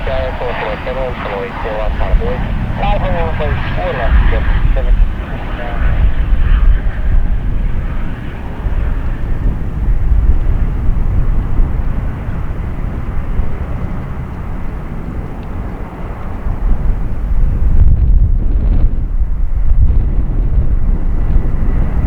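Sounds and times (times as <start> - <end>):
jet engines at takeoff power: 0.0 - 22.0.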